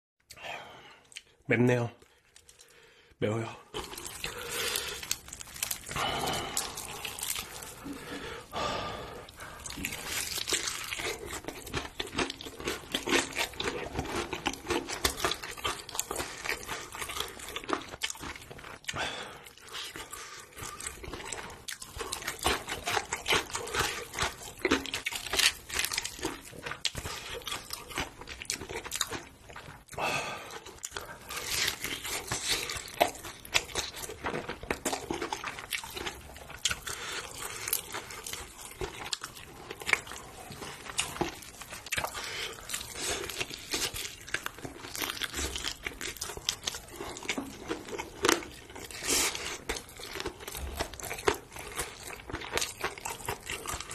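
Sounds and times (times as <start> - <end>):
crunching crispy fried chicken: 3.7 - 8.2, 9.2 - 29.9, 30.5 - 53.9.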